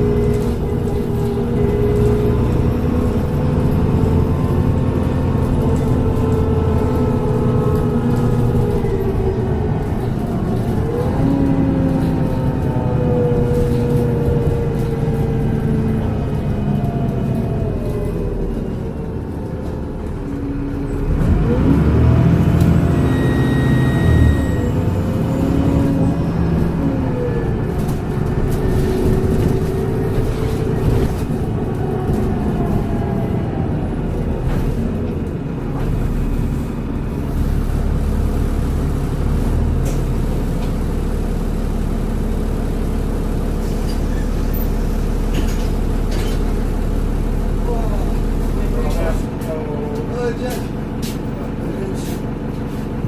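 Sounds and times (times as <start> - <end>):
bus engine running: 0.0 - 53.0.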